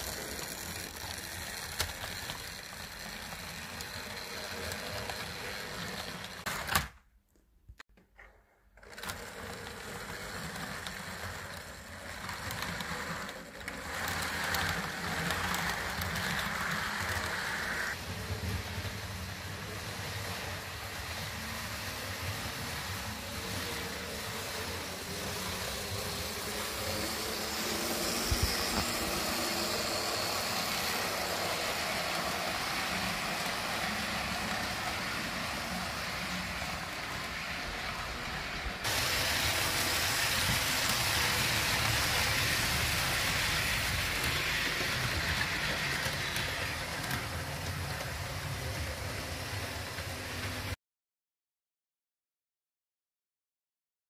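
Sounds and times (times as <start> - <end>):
model train rolling and whirring: 0.0 - 7.0, 8.2 - 50.8.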